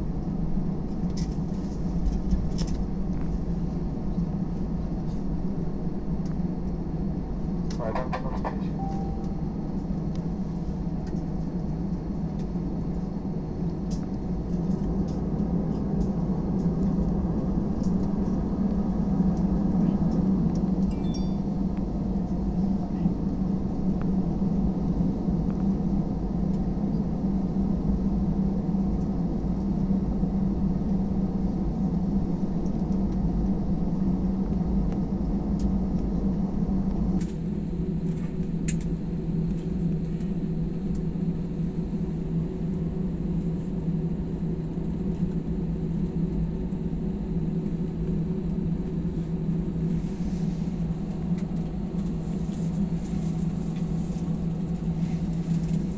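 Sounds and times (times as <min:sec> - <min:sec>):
airliner cabin engine drone: 0:00.0 - 0:55.9.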